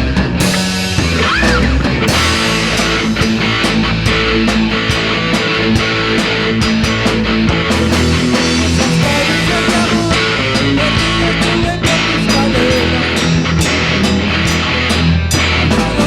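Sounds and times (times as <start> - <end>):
instrumental rock band: 0.0 - 16.0.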